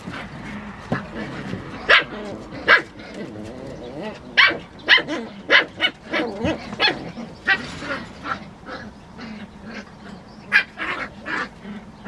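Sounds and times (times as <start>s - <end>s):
puppies yapping and yelping: 0.0s - 12.0s.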